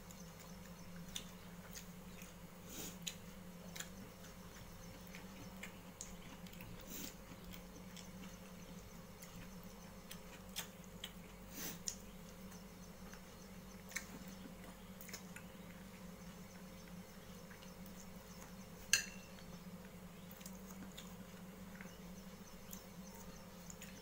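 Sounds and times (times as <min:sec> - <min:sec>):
man chewing: 0:00.0 - 0:21.9
steady low hum: 0:00.0 - 0:24.0.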